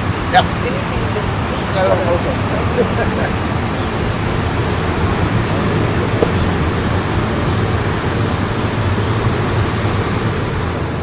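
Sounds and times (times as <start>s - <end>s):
motorcycle engine hum: 0.0s - 11.0s
road and wind noise: 0.0s - 11.0s.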